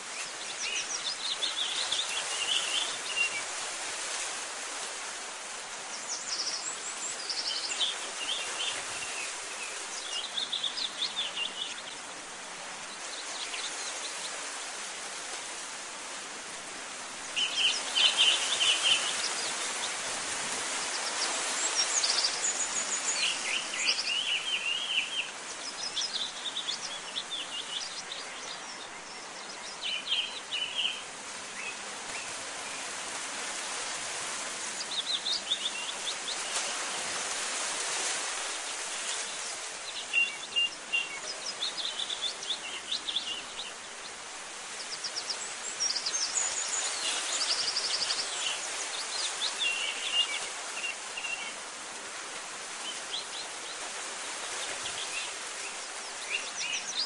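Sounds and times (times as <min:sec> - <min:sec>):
steady background hiss: 0:00.0 - 0:57.0.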